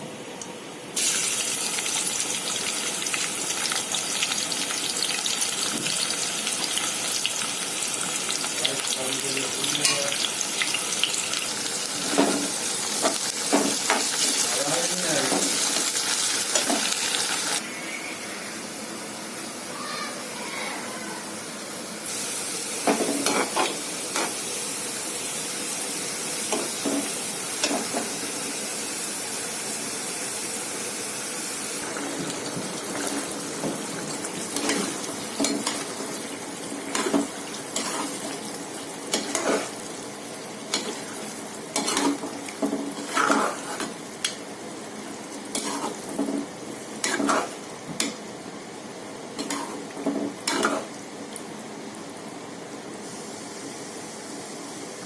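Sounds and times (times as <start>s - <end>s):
curry sizzling in a pot: 1.0s - 19.8s, 21.4s - 55.0s.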